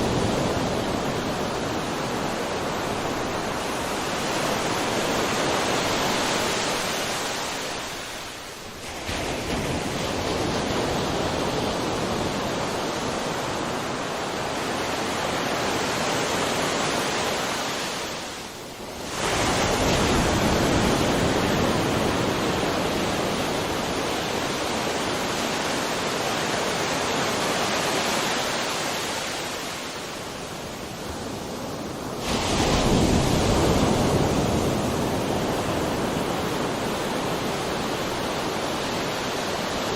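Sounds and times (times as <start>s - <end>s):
waves washing: 0.0s - 39.9s.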